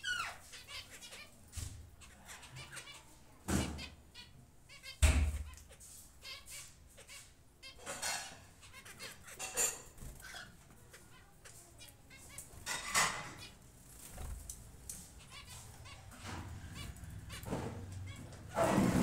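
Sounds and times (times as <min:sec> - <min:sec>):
faint steady background hum: 0:00.0 - 0:18.6.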